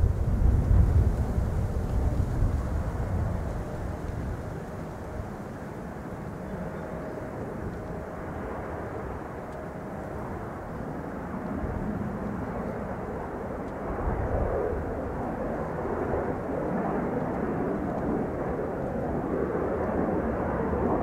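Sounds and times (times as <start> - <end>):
distant jet rumble: 0.0 - 21.0.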